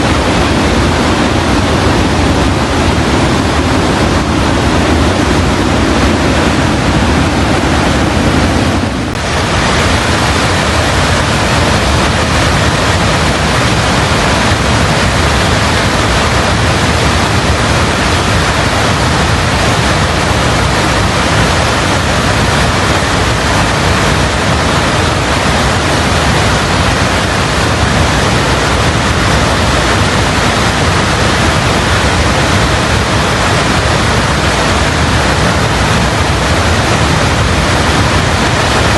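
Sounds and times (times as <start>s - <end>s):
rushing mountain river: 0.0s - 38.9s.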